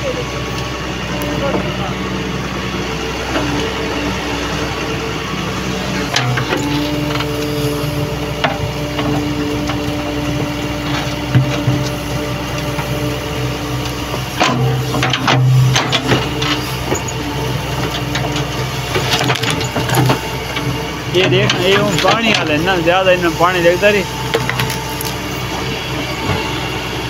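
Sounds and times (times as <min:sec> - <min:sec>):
excavator diesel engine running: 0:00.0 - 0:27.0
hydraulics whining: 0:00.0 - 0:27.0.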